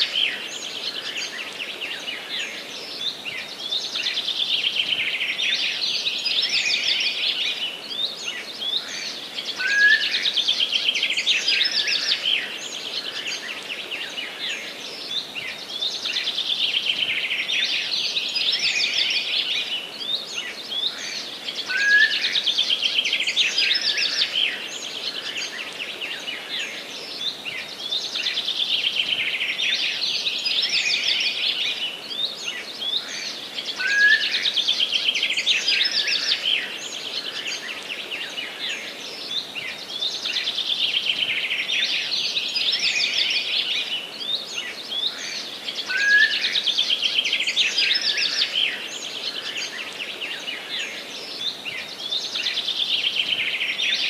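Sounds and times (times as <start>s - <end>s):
faint birdsong: 0.0s - 54.0s.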